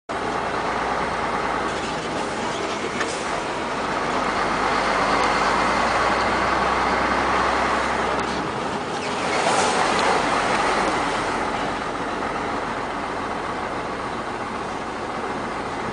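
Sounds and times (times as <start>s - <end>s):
heavy trucks passing: 0.1s - 15.9s.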